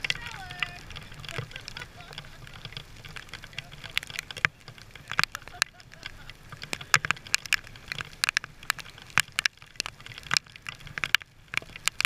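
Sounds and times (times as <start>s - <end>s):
low rumble of wind and water: 0.0s - 12.0s
raindrops ticking on camera housing: 0.0s - 12.0s.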